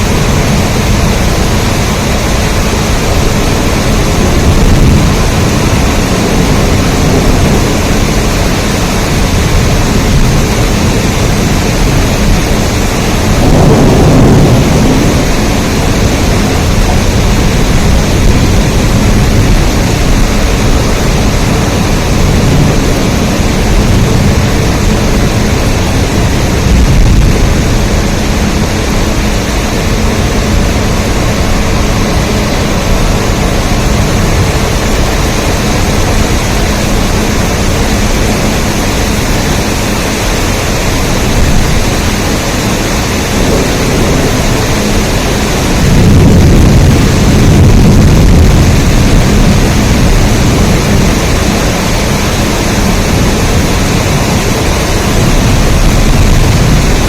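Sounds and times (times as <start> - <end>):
low rumble: 0.0 - 57.0
rain falling: 0.0 - 57.0.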